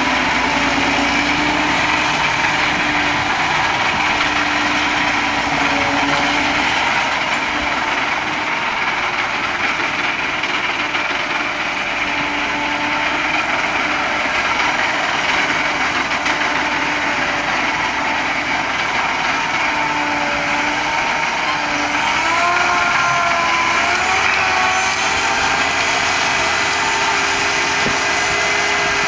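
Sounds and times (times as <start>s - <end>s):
tractor running: 0.0s - 29.0s.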